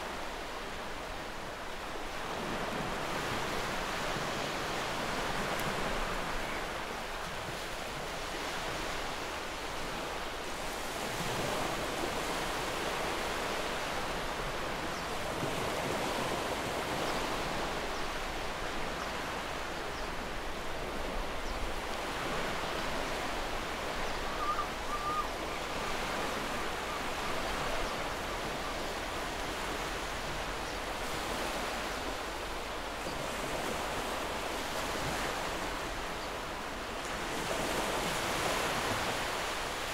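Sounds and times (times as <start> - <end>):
surf washing in: 0.0 - 39.9.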